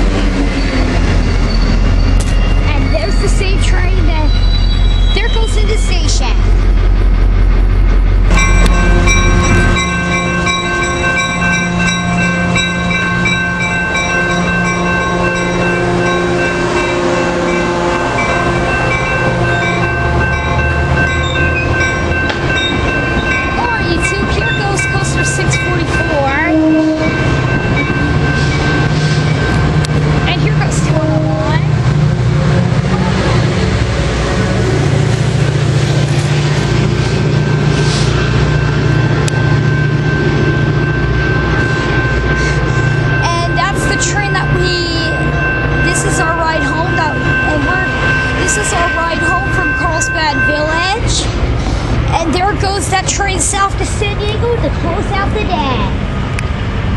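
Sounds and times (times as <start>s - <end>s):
diesel locomotive drone: 0.0s - 56.9s
train rumbling past: 0.0s - 56.9s.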